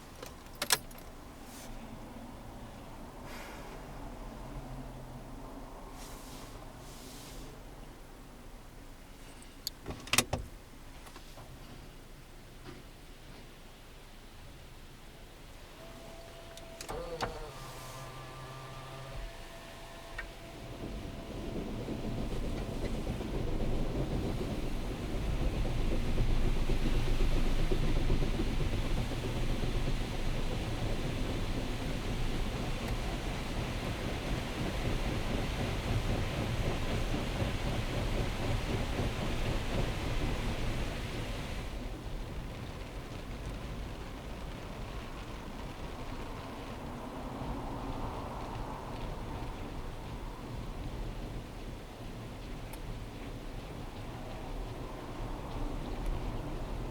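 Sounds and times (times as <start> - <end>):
car wash machine rumbling: 0.0 - 56.9.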